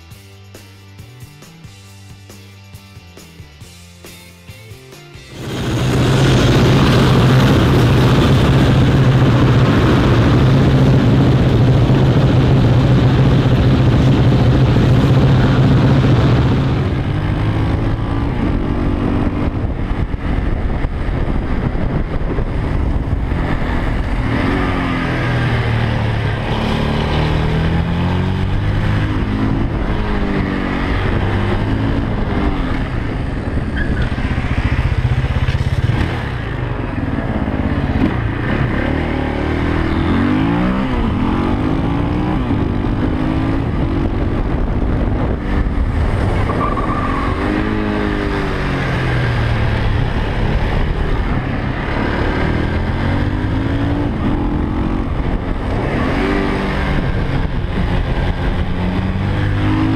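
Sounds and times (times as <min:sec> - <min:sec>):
motorcycle engine revving: 0:05.3 - 0:59.9.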